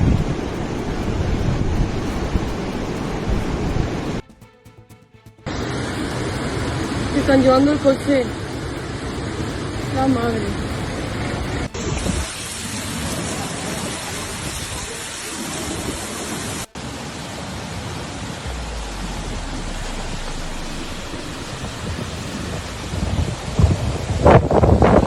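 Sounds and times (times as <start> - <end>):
floodwater rushing: 0.0 - 4.2, 5.5 - 25.0
torrential rain: 0.0 - 4.2, 5.5 - 25.0.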